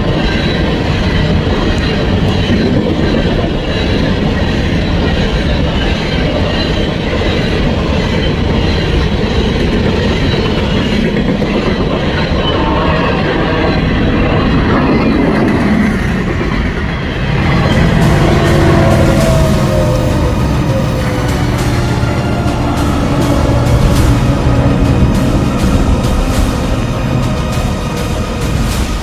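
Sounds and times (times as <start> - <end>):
freight cars rolling on rails: 0.0 - 29.0.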